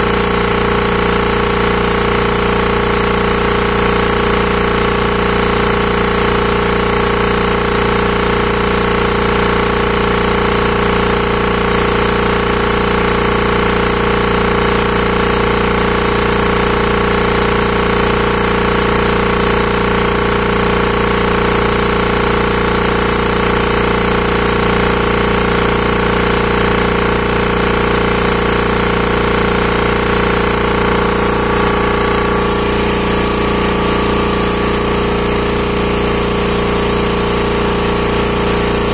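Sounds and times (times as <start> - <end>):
air compressor clattering: 0.0 - 38.9.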